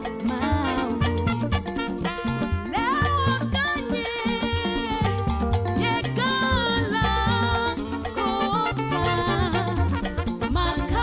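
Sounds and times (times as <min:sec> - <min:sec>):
upbeat music: 0:00.0 - 0:11.0.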